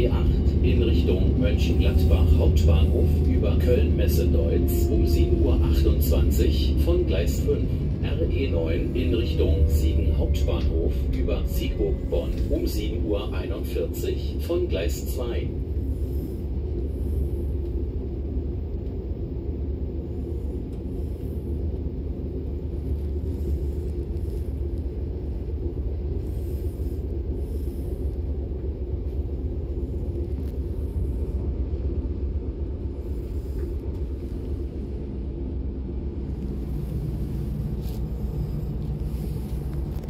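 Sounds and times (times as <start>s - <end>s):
train rumbling from inside: 0.0s - 40.0s.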